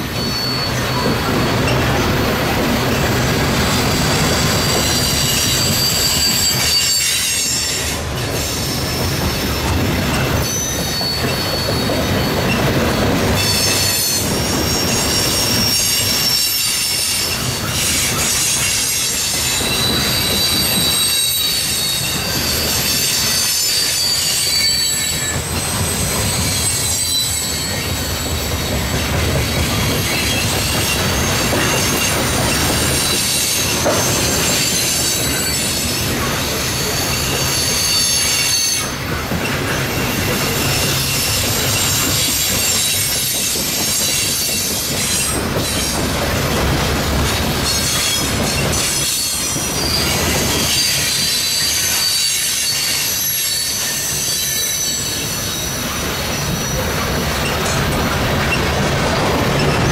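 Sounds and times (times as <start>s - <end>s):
high-pitched wheel squeal: 0.0s - 2.1s, 2.9s - 46.0s, 47.6s - 57.8s
train wheels rumbling on rail: 0.0s - 59.9s.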